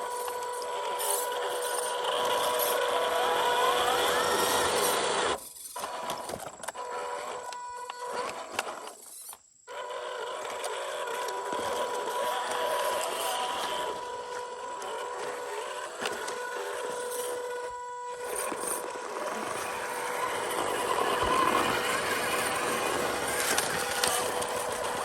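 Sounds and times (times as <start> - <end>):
grinding gear noise: 0.0 - 25.0
toy car electric motor whine: 0.0 - 25.0.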